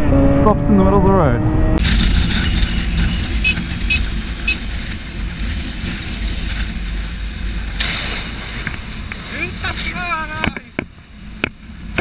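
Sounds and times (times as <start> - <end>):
motorcycle engine and road noise: 0.0 - 12.0
rush of noise: 0.0 - 12.0.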